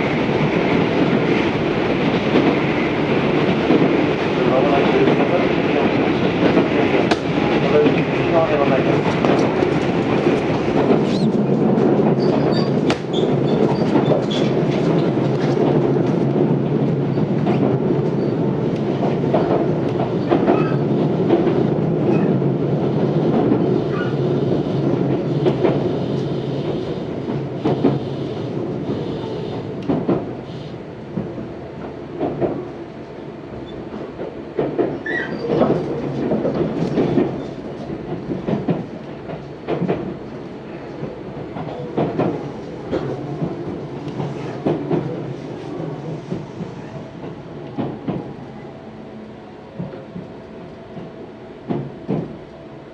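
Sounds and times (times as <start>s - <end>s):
train interior rumble: 0.0s - 52.9s.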